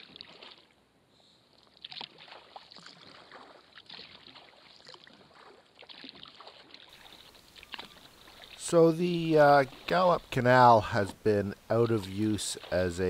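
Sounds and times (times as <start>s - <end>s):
water drips and small splashes: 0.0s - 0.9s, 1.5s - 13.0s.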